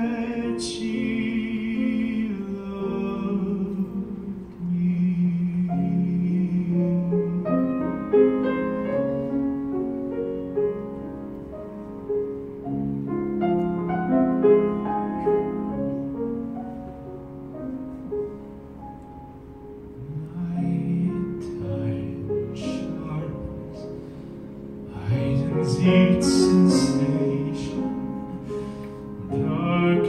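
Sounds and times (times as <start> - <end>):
gentle piano playing: 0.0 - 30.0.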